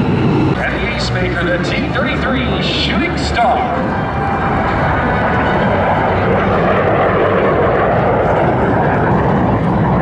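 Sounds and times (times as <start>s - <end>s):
jet flying overhead: 0.0s - 10.0s.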